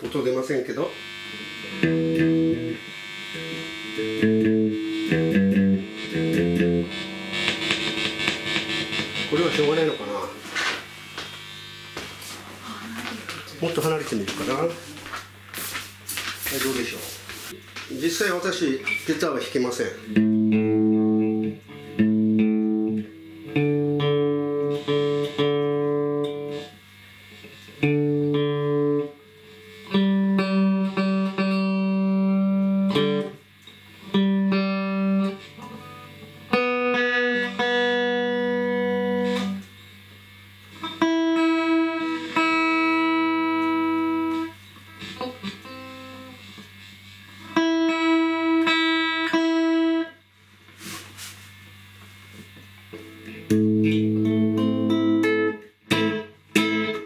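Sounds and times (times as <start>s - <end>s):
electric guitar chords: 0.0s - 13.3s, 20.0s - 57.0s.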